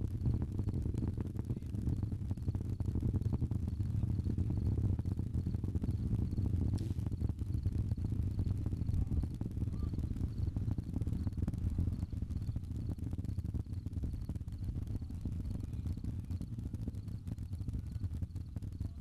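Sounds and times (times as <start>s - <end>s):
rocket engines crackling rumble: 0.0s - 19.0s.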